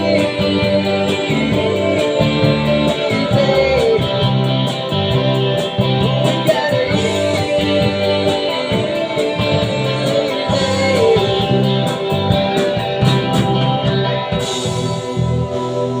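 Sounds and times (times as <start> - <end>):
strummed guitar chords: 0.0 - 16.0.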